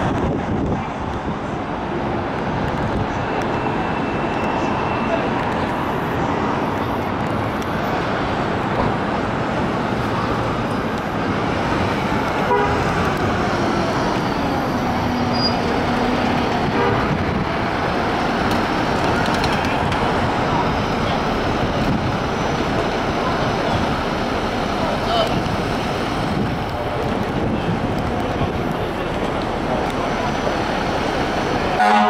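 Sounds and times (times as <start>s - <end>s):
city street traffic: 0.0s - 32.0s
fire engine diesel engine: 0.0s - 32.0s.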